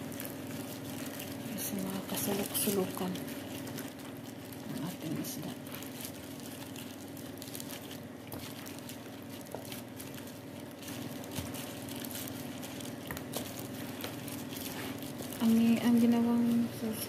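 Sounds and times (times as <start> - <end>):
squelches of fish in marinade: 0.0 - 17.0
steady low hum: 0.0 - 17.0.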